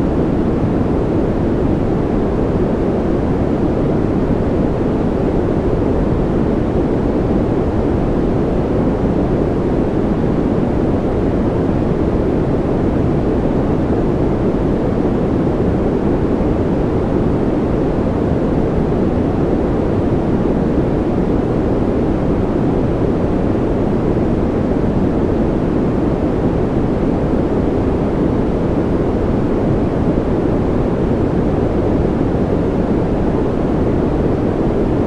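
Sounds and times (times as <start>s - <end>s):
low white noise: 0.0s - 35.0s.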